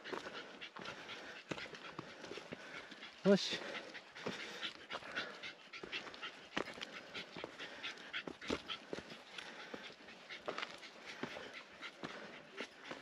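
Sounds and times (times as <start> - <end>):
dog panting: 0.0 - 13.0
footsteps on rocky ground: 0.0 - 13.0.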